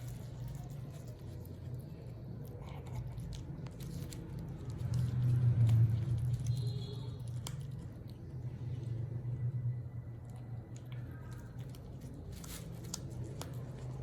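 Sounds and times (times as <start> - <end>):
kittens chewing and smacking: 0.0 - 14.0
low steady hum: 0.0 - 14.0.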